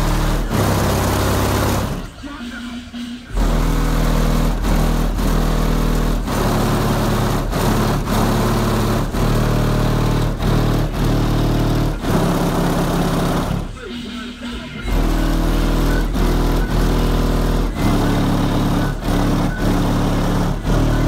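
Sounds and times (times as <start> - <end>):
bass-heavy music from car subwoofers: 0.0 - 21.0.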